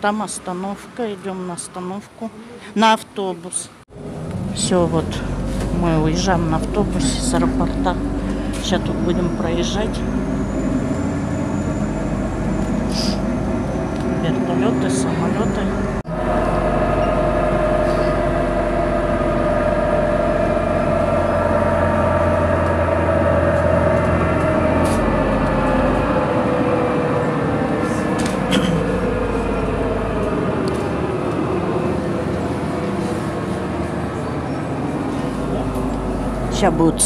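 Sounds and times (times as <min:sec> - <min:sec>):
bus engine and road rumble: 0:00.0 - 0:37.0
engine whine: 0:03.9 - 0:37.0.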